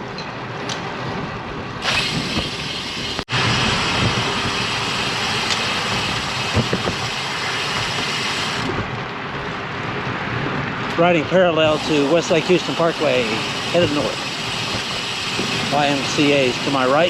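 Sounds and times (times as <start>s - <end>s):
rushing wind: 0.0s - 17.0s
bicycle tyre noise: 0.9s - 17.0s.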